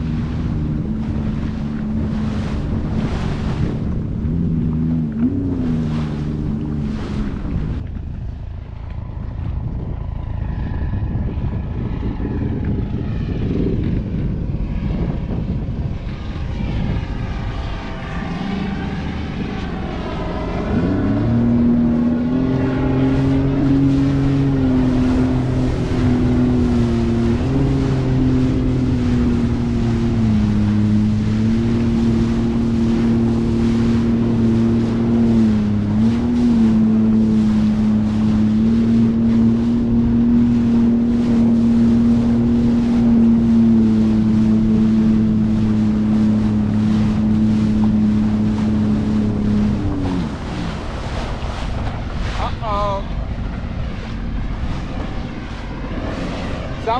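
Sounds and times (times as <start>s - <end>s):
jet ski engine: 0.0s - 56.9s.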